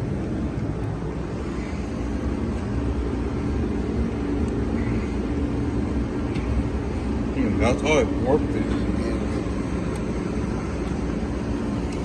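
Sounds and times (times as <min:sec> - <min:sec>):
constant hum: 0:00.0 - 0:12.0
low mechanical rumble: 0:00.0 - 0:12.0.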